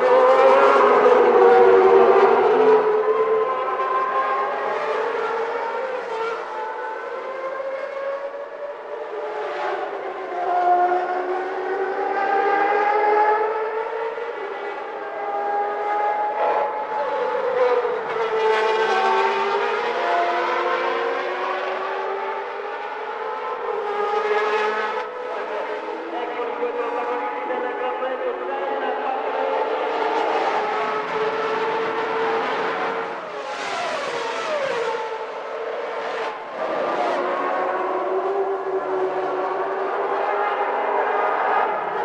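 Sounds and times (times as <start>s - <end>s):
racing car engines screaming: 0.0s - 42.0s.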